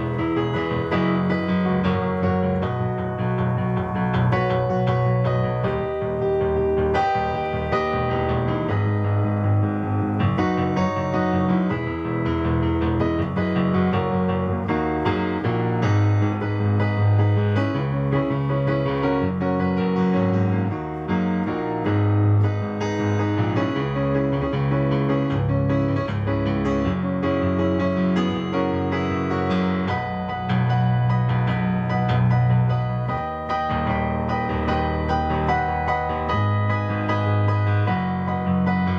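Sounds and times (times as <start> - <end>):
electric piano chords: 0.0 - 38.9.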